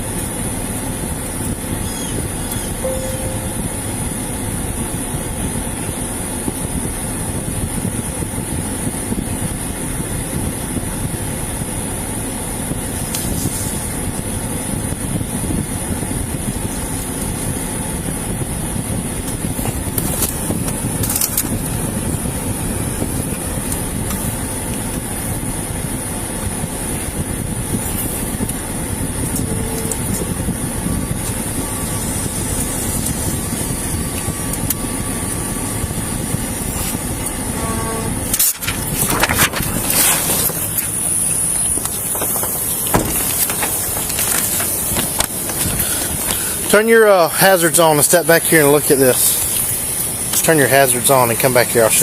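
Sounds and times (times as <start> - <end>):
vehicle idling: 0.0 - 52.0.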